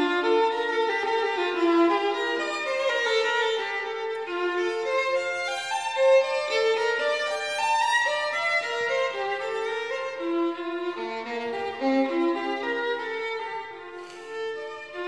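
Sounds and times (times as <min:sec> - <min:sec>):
violin melody with background music: 0:00.0 - 0:15.0.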